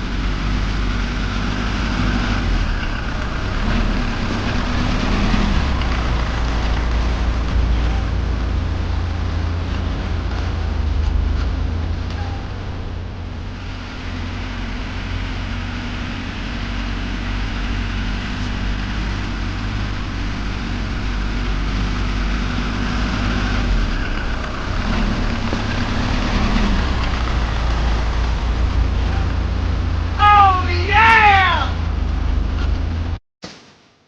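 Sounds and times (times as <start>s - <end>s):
small construction machine engine humming: 0.0s - 30.2s.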